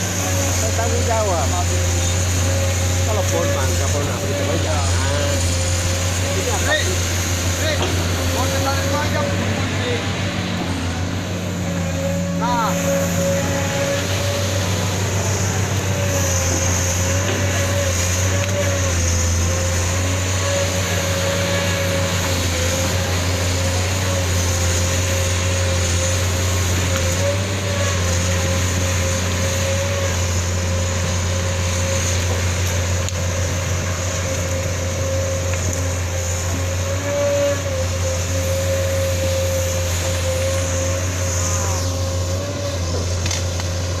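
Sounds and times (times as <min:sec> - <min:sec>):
excavator diesel engine running: 0:00.0 - 0:44.0
steady whine: 0:00.0 - 0:44.0.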